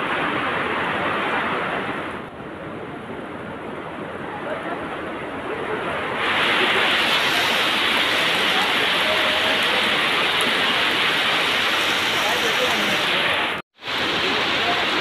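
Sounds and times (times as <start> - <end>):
heavy rain pouring: 0.0 - 2.3, 3.5 - 15.0.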